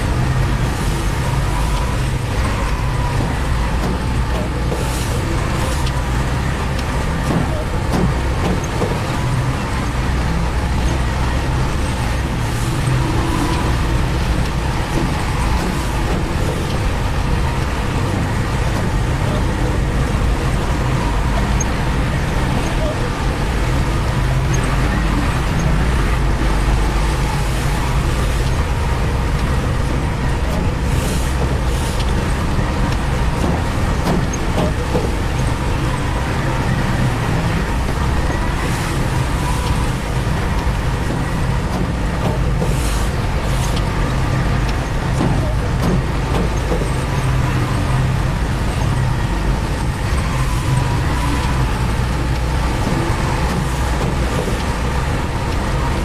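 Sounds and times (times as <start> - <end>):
heavy machinery engine rumbling: 0.0 - 56.0.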